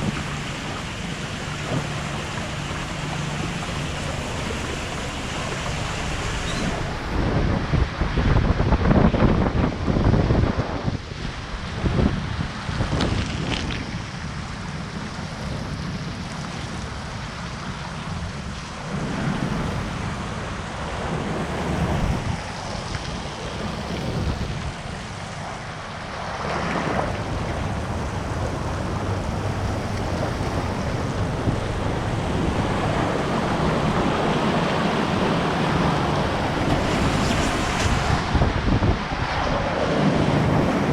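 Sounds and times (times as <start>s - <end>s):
water rushing down a slide: 0.0s - 40.9s
wind buffeting microphone: 0.0s - 40.9s.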